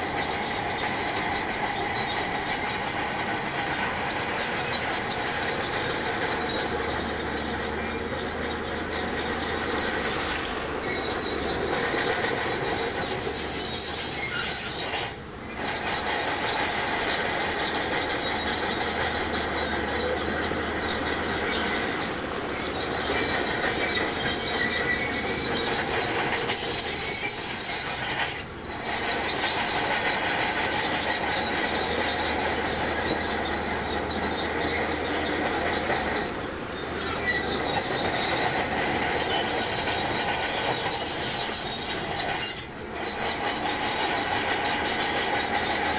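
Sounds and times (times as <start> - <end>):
tracks squealing and grinding on rock: 0.0 - 45.9.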